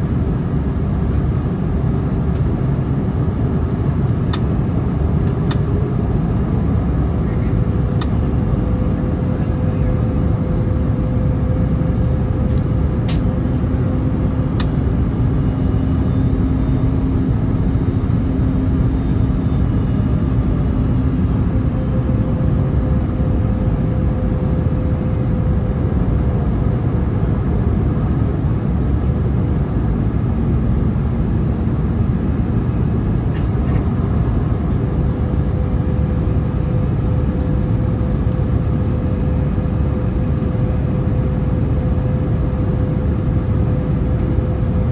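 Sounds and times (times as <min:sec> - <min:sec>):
distant airliner rumble: 0:00.0 - 0:44.9.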